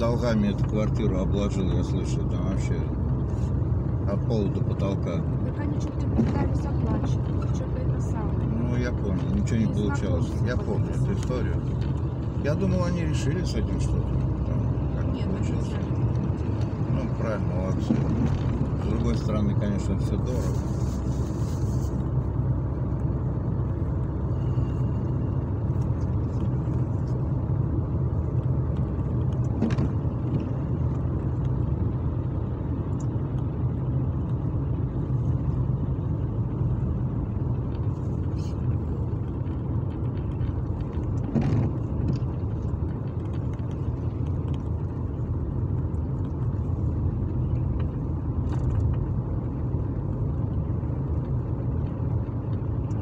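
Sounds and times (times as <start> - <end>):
car engine rumble: 0.0 - 53.0
tyres on wet road: 0.0 - 53.0.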